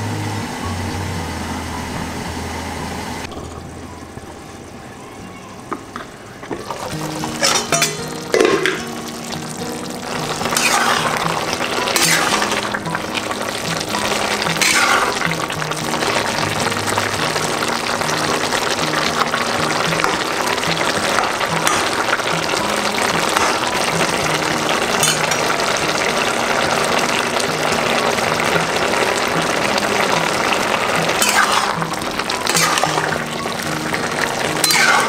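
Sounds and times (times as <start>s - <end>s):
background music: 0.0s - 35.0s
vegetables bubbling and sizzling: 0.0s - 35.0s.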